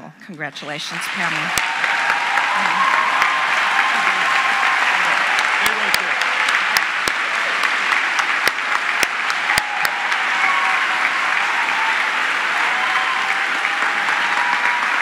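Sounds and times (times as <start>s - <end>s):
audience applauding: 0.6s - 15.0s
close sharp claps: 0.9s - 15.0s.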